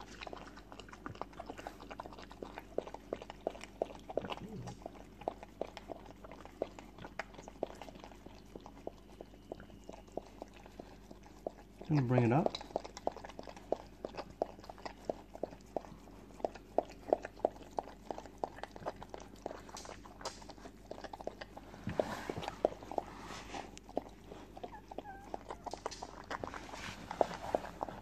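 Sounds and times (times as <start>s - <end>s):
puppies suckling wet clicks: 0.0s - 28.0s.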